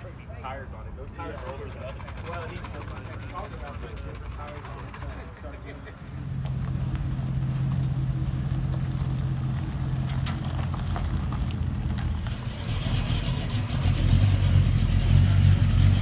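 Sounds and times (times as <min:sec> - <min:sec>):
truck engine running: 0:01.2 - 0:16.0.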